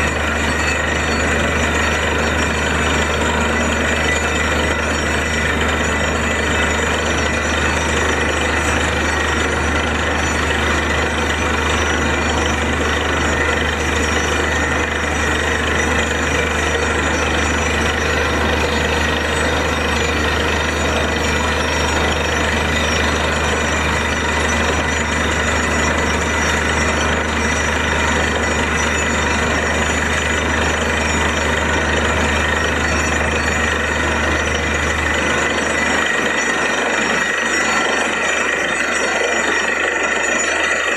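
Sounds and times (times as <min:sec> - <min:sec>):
drill hammering rapidly: 0:00.0 - 0:40.9
engine and compressor drone: 0:00.0 - 0:40.9.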